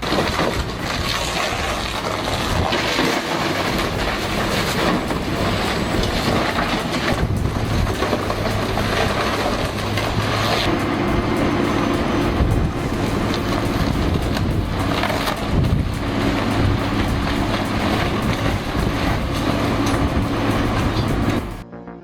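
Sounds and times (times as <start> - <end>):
crunching and scraping of hull: 0.0 - 21.6
excavator engine under load: 0.0 - 21.6.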